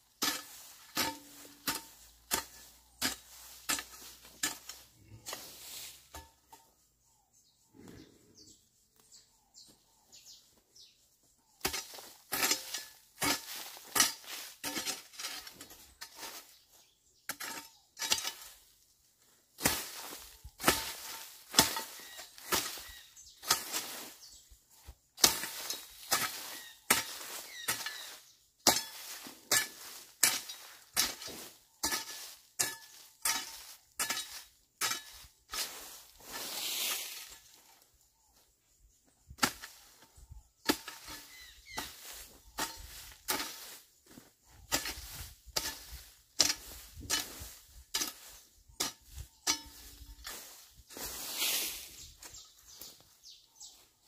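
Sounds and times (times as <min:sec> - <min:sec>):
metal hoe chopping ground: 0:00.0 - 0:06.7, 0:11.5 - 0:18.8, 0:19.5 - 0:37.8, 0:39.3 - 0:53.0.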